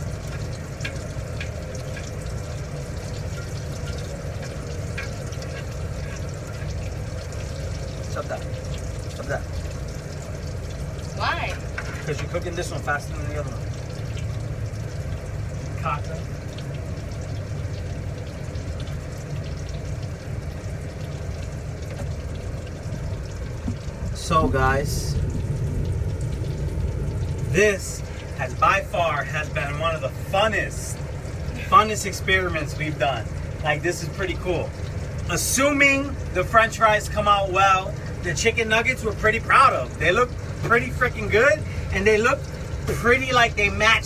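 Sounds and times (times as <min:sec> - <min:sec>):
hot oil sizzling and bubbling: 0:00.0 - 0:44.0
low steady hum: 0:00.0 - 0:44.0
oil pops and crackles: 0:00.0 - 0:44.0.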